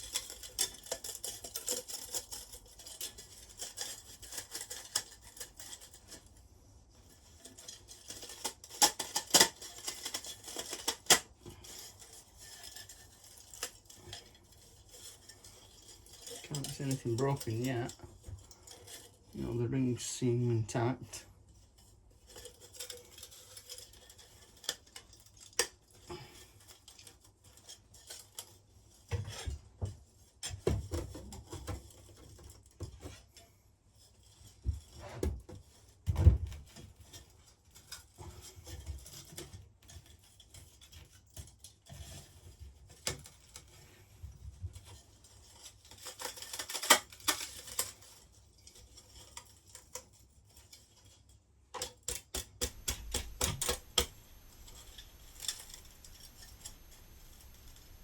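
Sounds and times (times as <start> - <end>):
parts clicking and scraping: 0.0 - 58.0.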